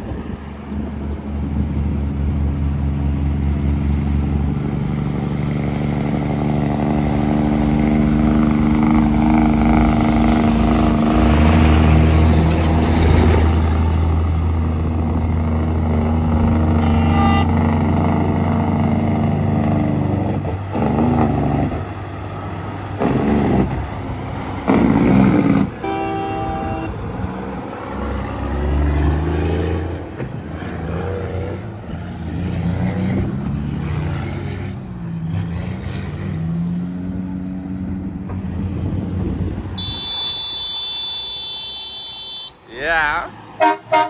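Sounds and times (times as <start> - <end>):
diesel truck engines labouring: 0.0 - 44.0
truck tyre noise: 0.0 - 44.0.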